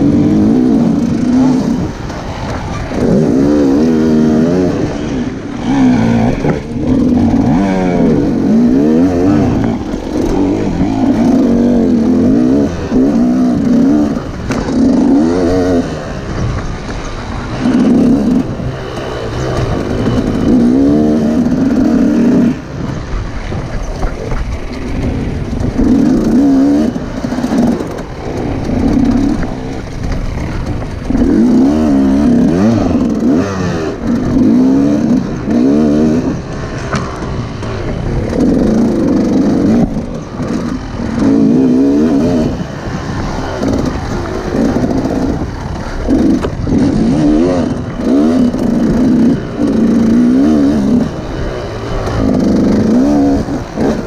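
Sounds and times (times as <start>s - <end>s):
two-stroke engine revving hard: 0.0s - 54.0s.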